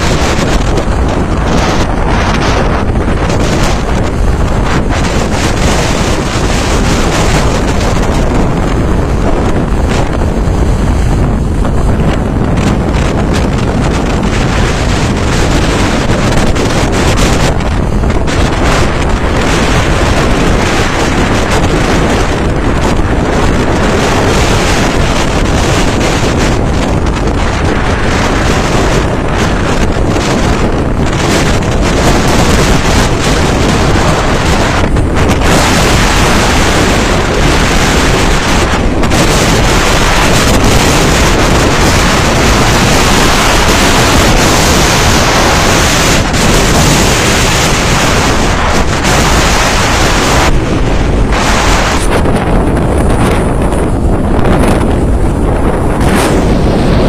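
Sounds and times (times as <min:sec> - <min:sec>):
waves breaking: 0:00.0 - 0:57.0
wind buffeting microphone: 0:00.0 - 0:57.0.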